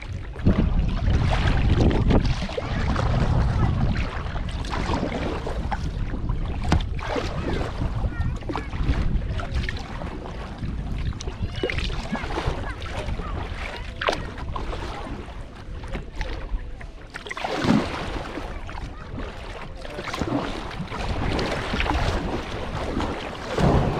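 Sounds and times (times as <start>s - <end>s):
kayak paddle splashing: 0.0s - 23.9s
water sloshing around hull: 0.0s - 23.9s
wind rumbling on microphone: 0.0s - 23.9s.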